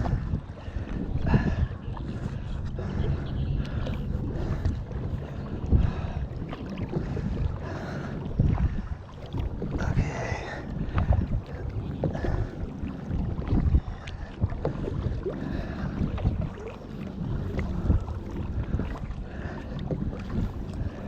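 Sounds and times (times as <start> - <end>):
paddle dipping and splashing: 0.0 - 21.0
water drips against hull: 0.0 - 21.0
wind rumble on microphone: 0.0 - 21.0.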